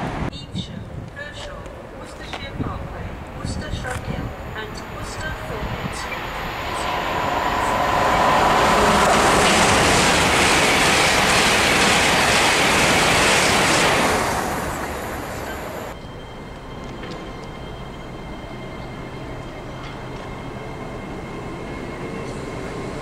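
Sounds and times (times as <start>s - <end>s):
train passing: 0.0s - 23.0s.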